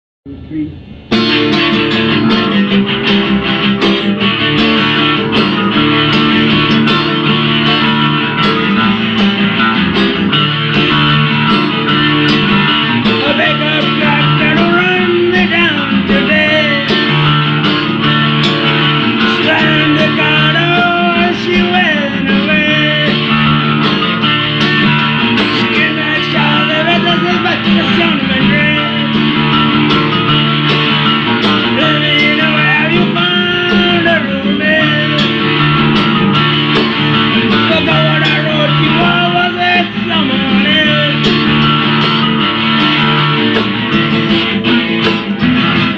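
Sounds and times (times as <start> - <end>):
rock band playing: 0.8 - 45.9.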